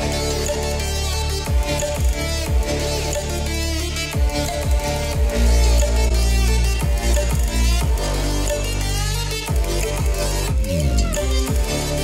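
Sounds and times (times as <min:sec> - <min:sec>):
electronic dance music: 0:00.0 - 0:12.0
sustained synth chords: 0:00.0 - 0:12.0
deep bass kicks: 0:01.2 - 0:12.0.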